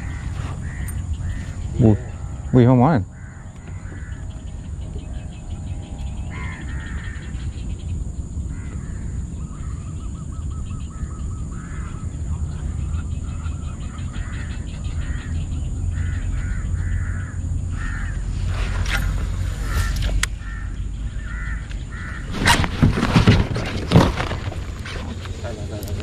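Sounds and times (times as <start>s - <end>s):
birds calling harshly: 0.0s - 26.0s
steady low rumble: 0.0s - 26.0s.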